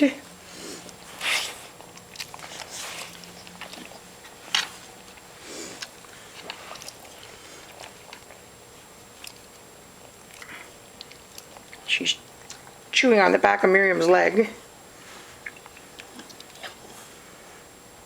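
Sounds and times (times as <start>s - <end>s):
pets licking and chewing: 0.0s - 17.8s.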